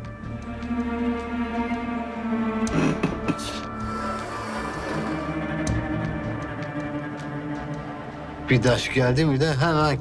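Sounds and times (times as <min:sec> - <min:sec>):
music of held steady tones: 0:00.0 - 0:10.0.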